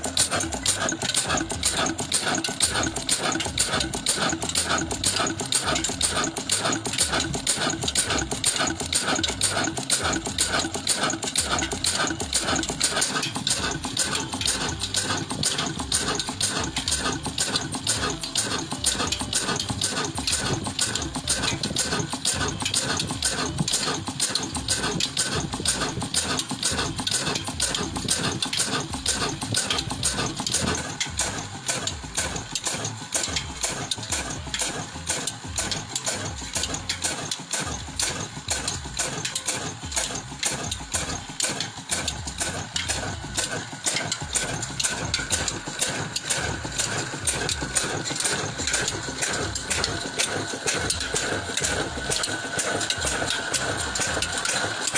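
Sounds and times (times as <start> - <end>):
stationary diesel engine running: 0.0 - 54.9.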